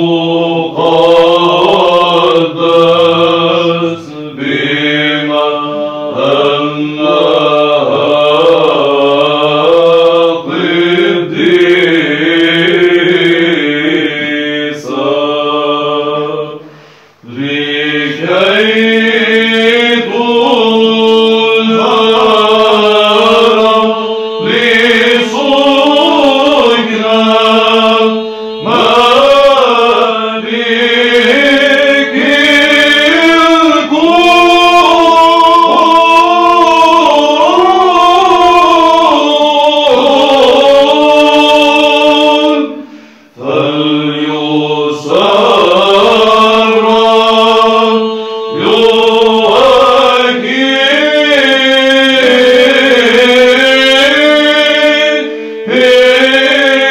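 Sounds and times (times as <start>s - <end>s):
choir of monks chanting: 0.0s - 56.9s.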